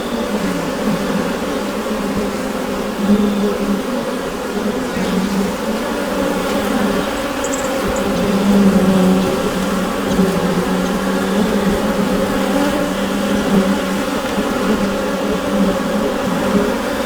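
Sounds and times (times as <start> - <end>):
honeybees humming in a hive: 0.0 - 17.0.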